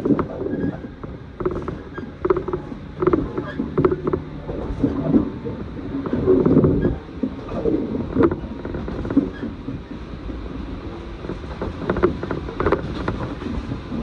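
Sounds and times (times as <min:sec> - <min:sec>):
train low rumble: 0:00.0 - 0:14.0
wheels clicking on track: 0:00.0 - 0:14.0.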